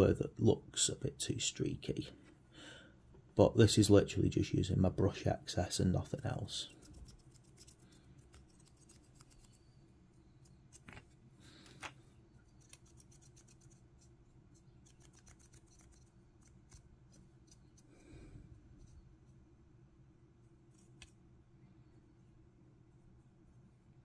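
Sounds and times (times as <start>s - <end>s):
faint room hum: 0.0s - 24.0s.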